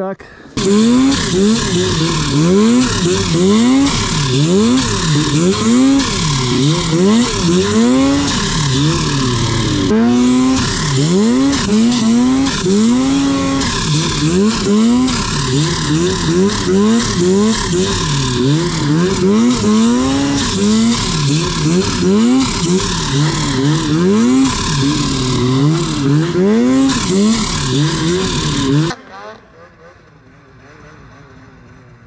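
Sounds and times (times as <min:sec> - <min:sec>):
snowmobile engine revving: 0:00.0 - 0:32.0.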